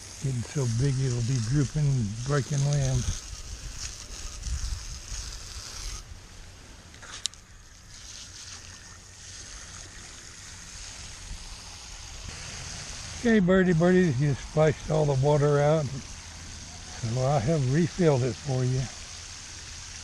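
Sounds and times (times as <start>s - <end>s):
hose water spraying and splashing: 0.0s - 20.0s.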